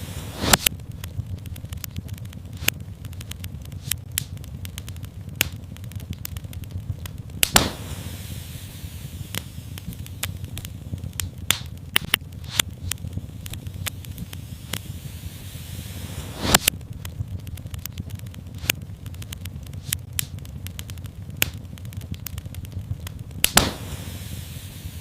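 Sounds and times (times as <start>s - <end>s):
fire hissing: 0.0s - 25.0s
wood fire crackling: 0.0s - 25.0s.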